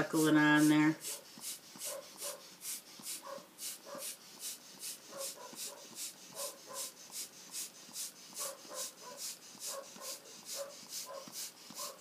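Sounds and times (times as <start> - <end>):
spray puffs of air: 0.0 - 12.0.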